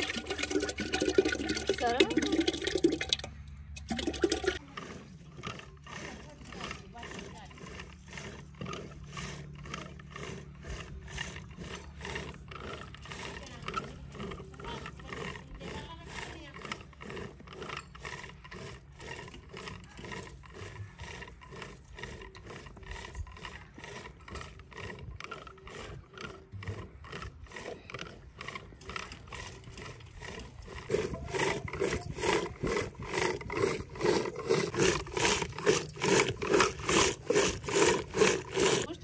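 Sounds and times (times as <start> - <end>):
wooden stick churning curd: 0.0 - 39.0.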